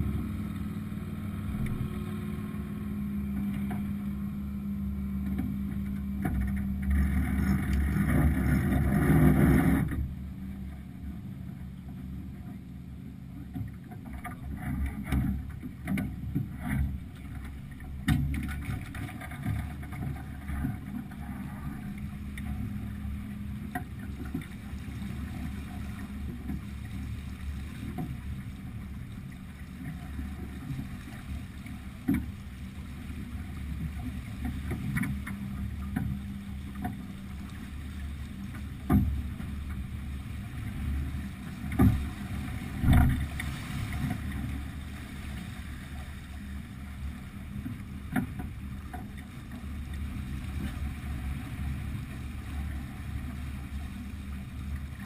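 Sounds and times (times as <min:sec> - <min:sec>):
water rushing along hull: 0:00.0 - 0:55.0
wind rumbling on microphone: 0:00.0 - 0:55.0.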